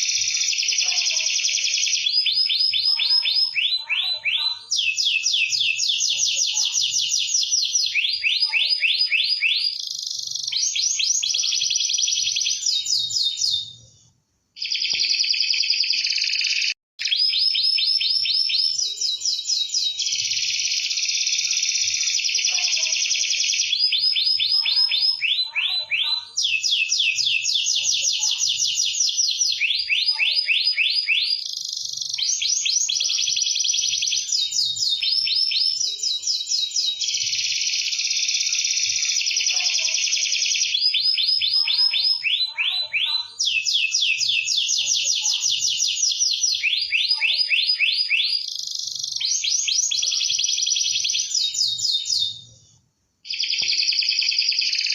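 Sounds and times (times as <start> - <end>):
canary singing trills: 0.0 - 13.9, 14.6 - 52.6, 53.2 - 54.9.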